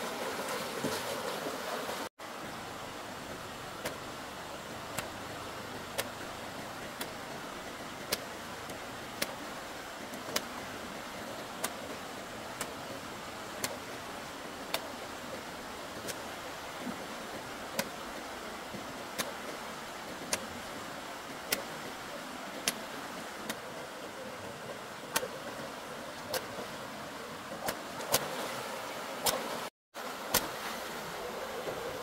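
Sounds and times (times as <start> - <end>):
steady background hiss: 0.0 - 32.0.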